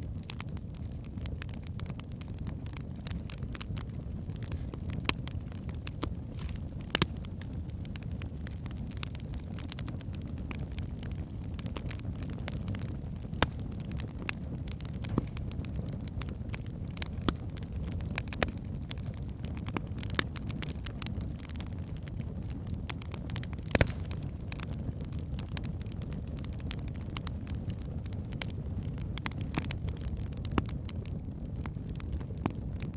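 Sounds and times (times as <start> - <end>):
flames rumbling: 0.0 - 32.9
logs crackling and popping: 0.0 - 32.9.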